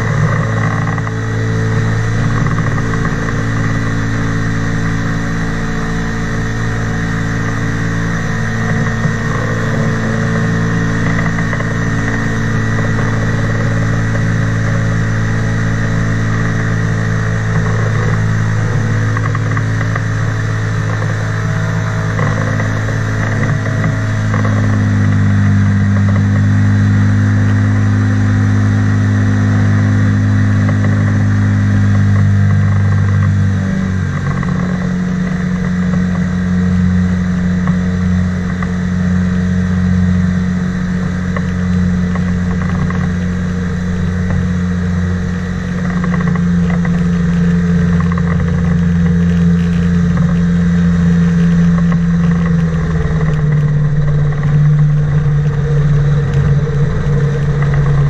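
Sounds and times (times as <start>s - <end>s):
engine and propeller running: 0.0s - 58.0s
hull skimming water: 0.0s - 58.0s.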